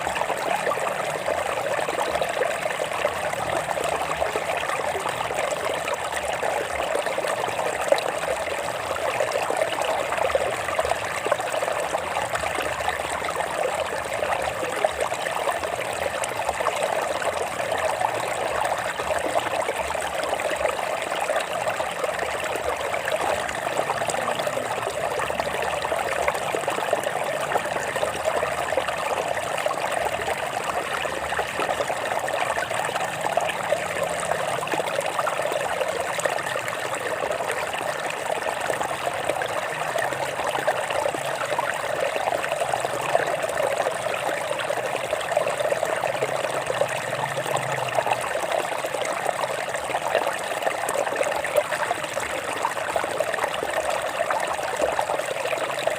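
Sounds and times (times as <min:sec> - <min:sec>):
water flowing over rocks: 0:00.0 - 0:55.9.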